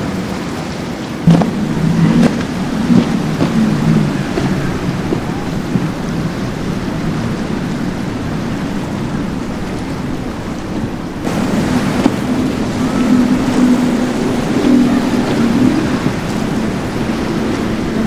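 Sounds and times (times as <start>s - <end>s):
outboard engines droning: 0.0s - 18.0s
water rushing and spray: 0.0s - 18.0s.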